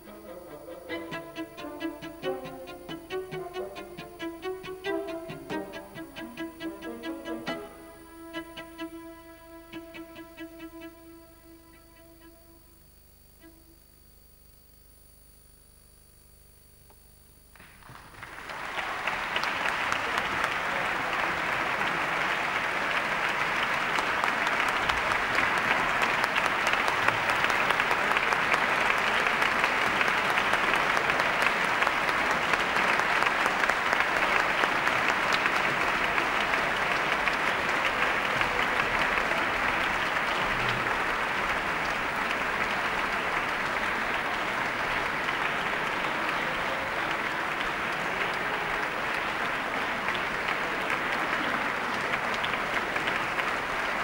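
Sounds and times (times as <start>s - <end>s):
audience applauding: 0.0s - 12.4s, 17.6s - 54.0s.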